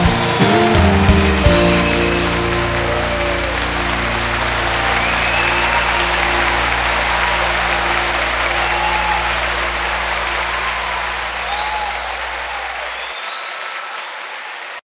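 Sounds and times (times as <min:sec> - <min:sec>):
crowd applauding: 0:00.0 - 0:14.8.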